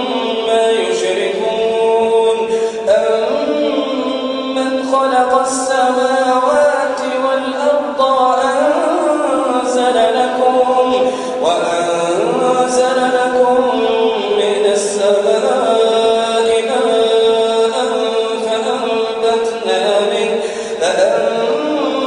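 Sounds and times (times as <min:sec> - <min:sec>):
man chanting recitation: 0:00.0 - 0:22.0.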